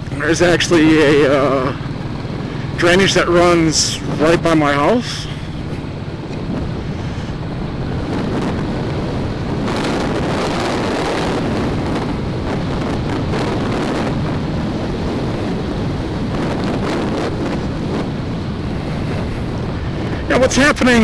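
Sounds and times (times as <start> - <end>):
motorcycle engine running: 0.0 - 20.4
wind rushing over microphone: 0.0 - 21.0.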